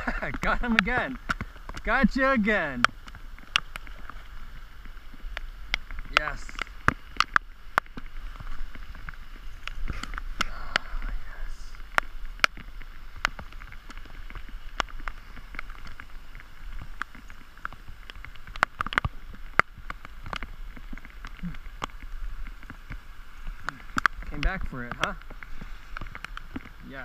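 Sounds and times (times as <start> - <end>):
rain hissing on a pond: 0.0 - 27.0
raindrops ticking on camera: 0.0 - 27.0.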